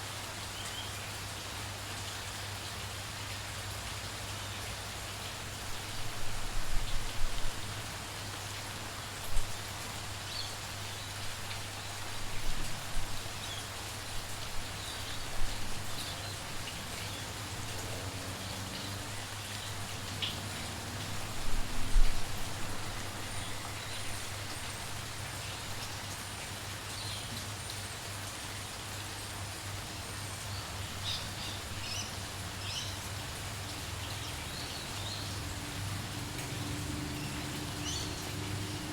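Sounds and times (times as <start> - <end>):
light rain hissing: 0.0 - 38.9.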